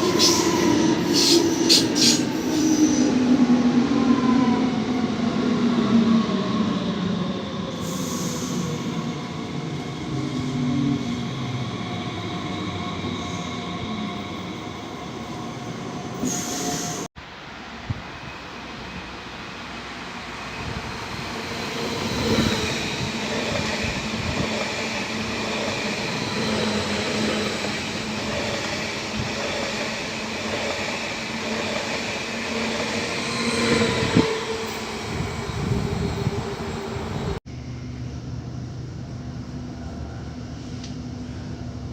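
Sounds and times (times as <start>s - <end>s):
trains passing on rails: 0.0s - 41.9s.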